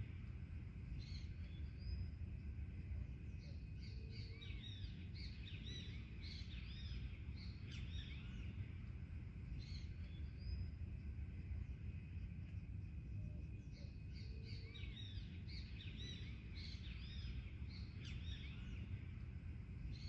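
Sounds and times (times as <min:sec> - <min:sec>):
forest birds chirping: 0:00.0 - 0:20.0
low background rumble: 0:00.0 - 0:20.0.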